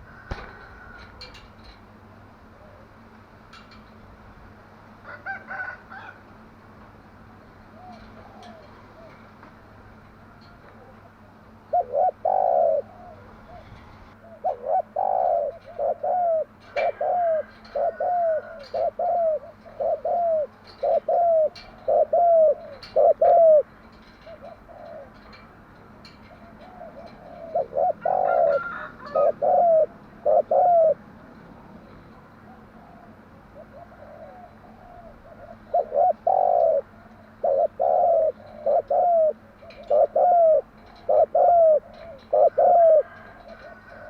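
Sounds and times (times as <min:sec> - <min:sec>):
dove cooing: 0:00.0 - 0:01.4, 0:02.4 - 0:03.1, 0:07.6 - 0:31.1, 0:31.9 - 0:44.0.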